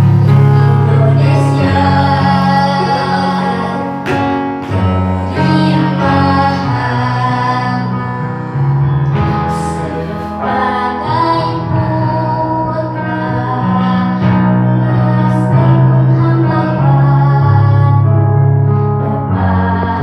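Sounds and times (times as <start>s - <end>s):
woman singing: 0.0s - 18.1s
instrumental backing music: 0.0s - 20.0s.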